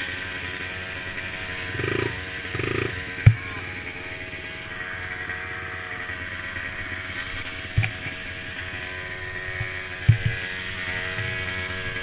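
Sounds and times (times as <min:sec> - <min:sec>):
mini quad engines buzzing: 0:00.0 - 0:12.0.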